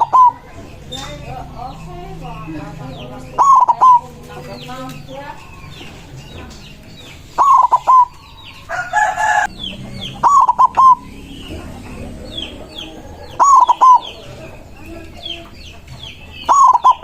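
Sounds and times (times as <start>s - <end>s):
harsh bird call: 0.0s - 4.7s, 7.4s - 17.0s
dove cooing: 0.0s - 5.6s, 7.2s - 17.0s
small birds chirping: 0.0s - 17.0s.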